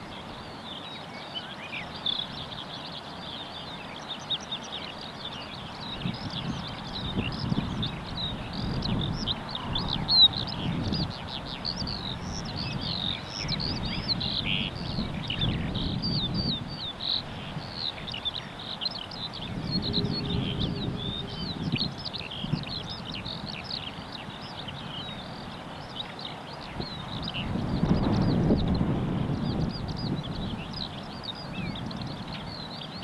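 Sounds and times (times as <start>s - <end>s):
songbirds singing: 0.0s - 33.0s.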